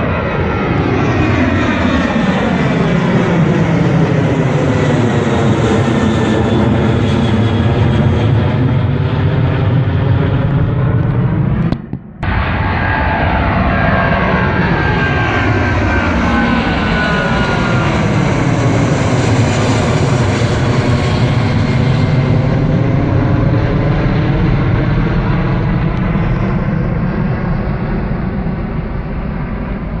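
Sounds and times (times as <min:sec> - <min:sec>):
jet engine roar with whine: 0:00.0 - 0:30.0.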